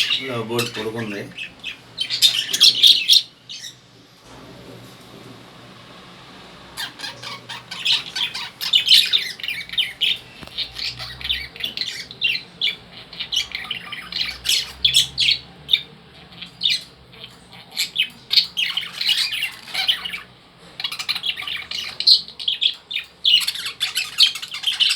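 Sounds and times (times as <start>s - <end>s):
lovebirds chirping and squawking: 0.0s - 5.9s, 6.5s - 24.9s.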